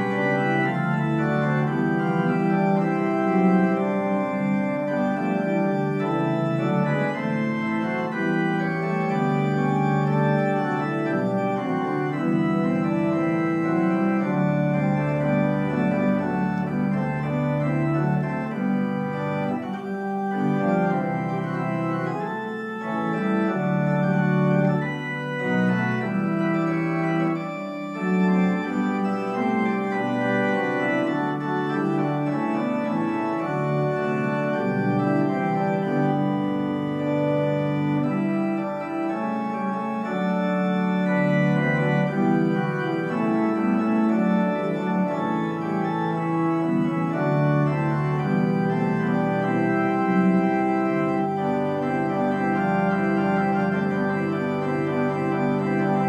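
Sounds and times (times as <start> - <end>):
church organ chords: 0.0 - 56.0
organ pedal bass notes: 0.0 - 56.0.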